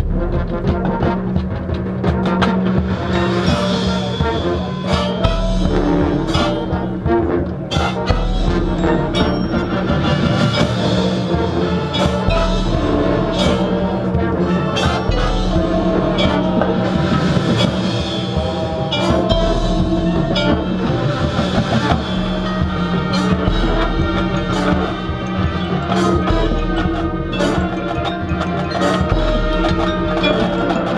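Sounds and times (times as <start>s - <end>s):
drum hits: 0.0s - 30.9s
marching band playing: 0.0s - 30.9s.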